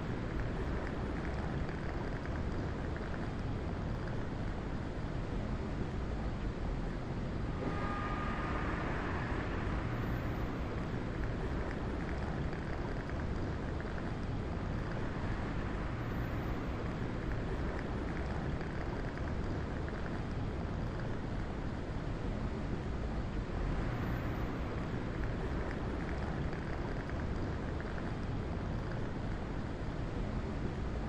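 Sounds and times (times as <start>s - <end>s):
low rumble with hiss: 0.0s - 31.0s.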